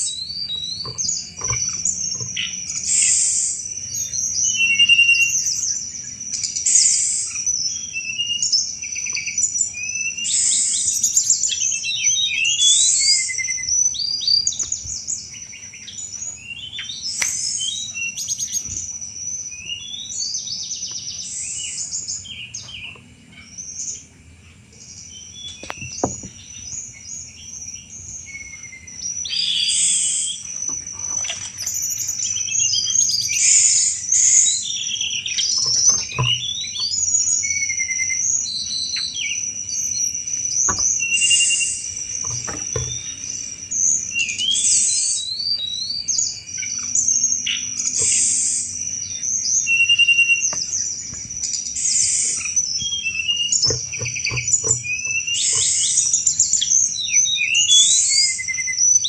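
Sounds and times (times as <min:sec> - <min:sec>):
bird chattering and chirping: 0:00.0 - 0:24.1, 0:24.8 - 0:59.0.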